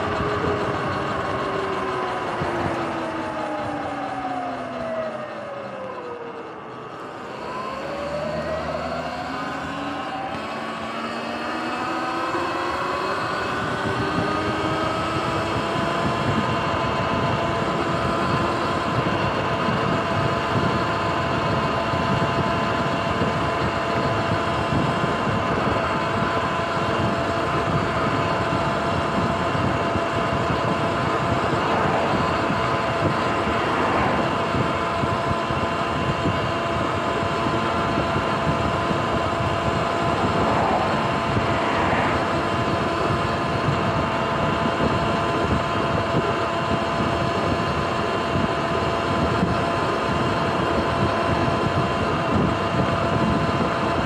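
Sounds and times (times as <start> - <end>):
electric motor whining: 0.0 - 54.0
wind rush: 9.2 - 54.0.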